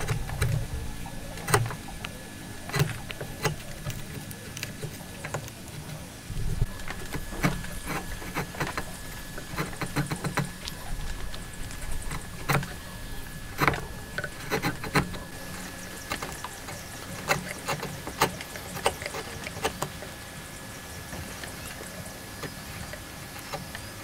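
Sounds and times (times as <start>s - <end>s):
chisel scraping wood: 0.0s - 24.0s
wood shavings cracking: 0.0s - 24.0s.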